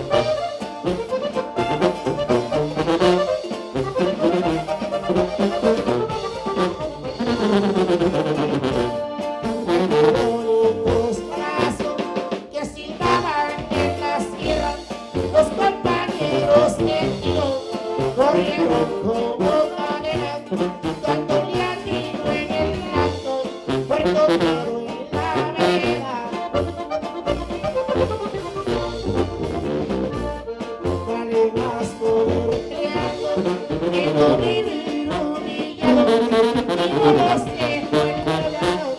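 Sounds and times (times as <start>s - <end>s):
sousaphone bass line: 0.0s - 12.2s, 13.0s - 38.9s
bajo sexto strumming: 0.0s - 38.9s
button accordion: 0.0s - 38.9s.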